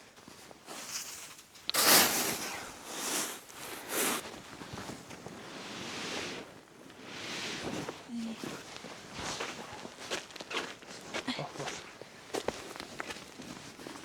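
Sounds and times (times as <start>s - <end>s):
rustling and crunching: 0.1s - 14.0s.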